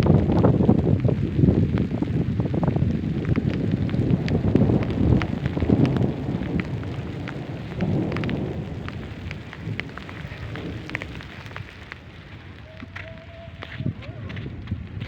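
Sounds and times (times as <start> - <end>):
heavy rain: 0.0 - 15.0
sharp raindrop hits: 0.0 - 15.0.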